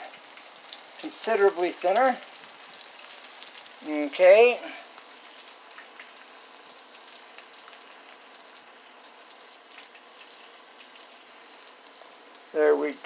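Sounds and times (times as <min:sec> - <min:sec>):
dough sizzling in hot grease: 0:00.0 - 0:13.0.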